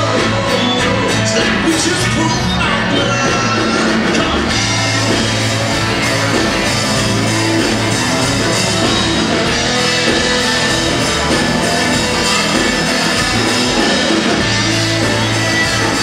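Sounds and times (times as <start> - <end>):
country rock band playing: 0.0 - 16.0
electric guitar: 0.0 - 16.0.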